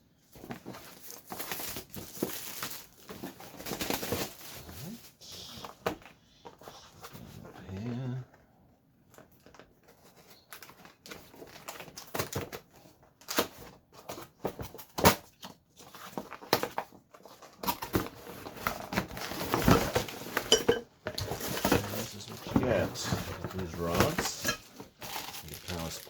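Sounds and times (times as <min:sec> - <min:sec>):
packaging rustling: 0:00.3 - 0:05.2, 0:09.1 - 0:26.0.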